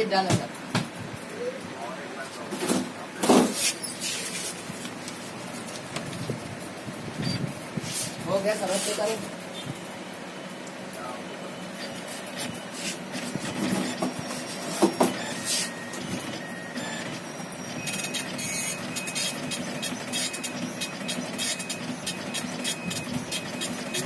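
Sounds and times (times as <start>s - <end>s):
dot matrix print head chatter: 1.2s - 10.0s, 10.9s - 24.0s.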